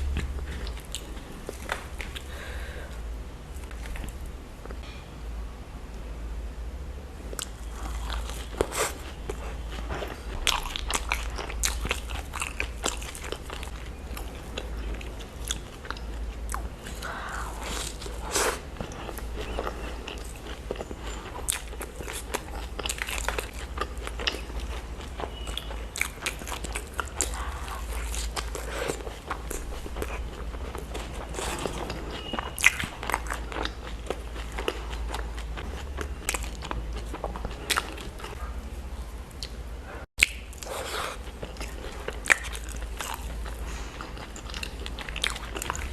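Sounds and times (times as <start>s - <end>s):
person chewing crunchy food: 0.0s - 4.8s, 7.3s - 38.4s, 40.2s - 45.9s.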